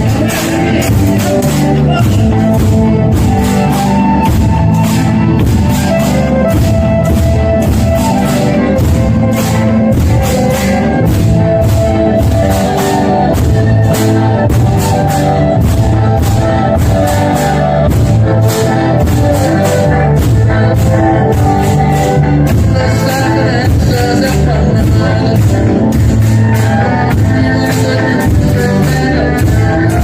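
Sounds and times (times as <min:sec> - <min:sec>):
pitched melody: 0:00.0 - 0:30.0.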